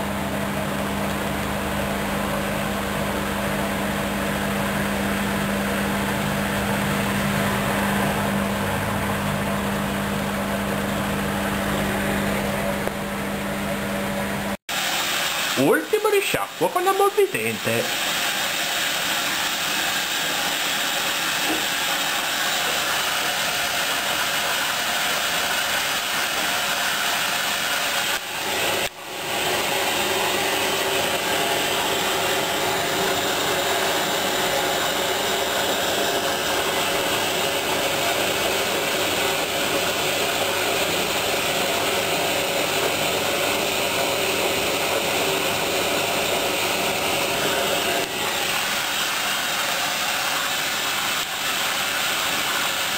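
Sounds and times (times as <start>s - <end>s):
washing machine rushing noise: 0.0s - 52.9s.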